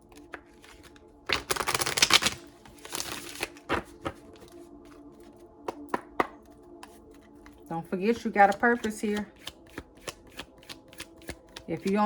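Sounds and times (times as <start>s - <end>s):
cards being shuffled: 0.0s - 12.0s
cards tapping as they settle: 0.1s - 12.0s.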